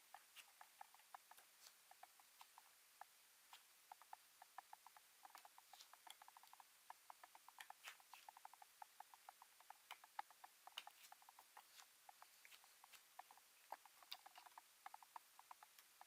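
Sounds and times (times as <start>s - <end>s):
faint rapid clicking and tapping: 0.0s - 16.0s.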